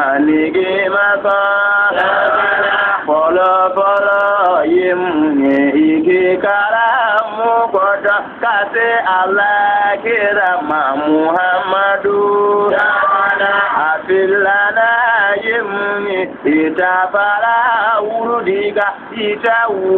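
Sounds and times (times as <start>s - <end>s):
man singing a chant: 0.0s - 19.9s.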